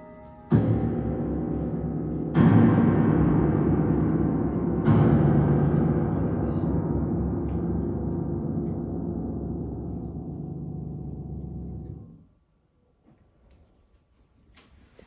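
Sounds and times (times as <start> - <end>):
low piano chord ringing: 0.0 - 12.2.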